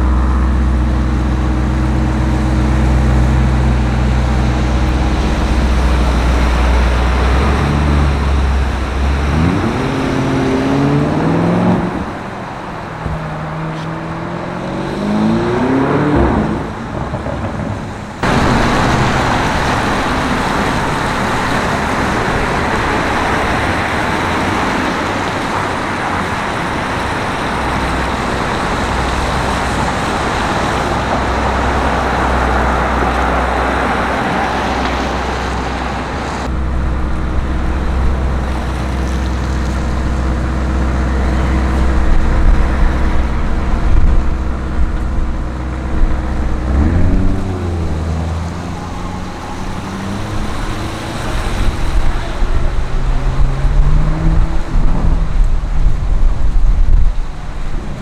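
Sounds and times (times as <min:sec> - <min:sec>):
low engine hum: 0:00.0 - 0:58.0
road traffic passing: 0:00.0 - 0:58.0.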